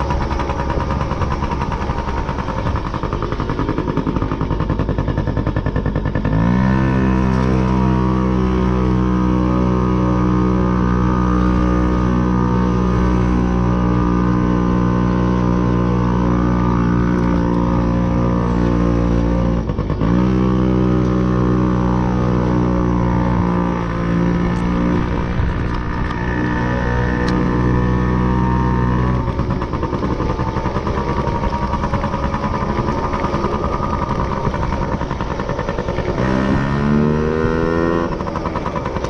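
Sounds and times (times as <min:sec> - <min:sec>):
motorcycle engine: 0:00.0 - 0:39.0.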